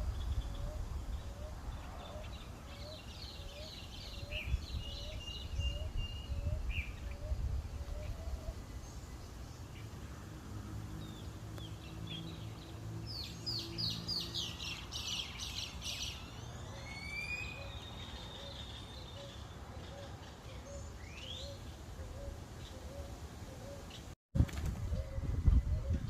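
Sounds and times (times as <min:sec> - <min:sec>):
birds singing: 0:00.0 - 0:10.1, 0:10.8 - 0:24.2, 0:24.9 - 0:26.0
low rumble of wind: 0:00.0 - 0:26.0.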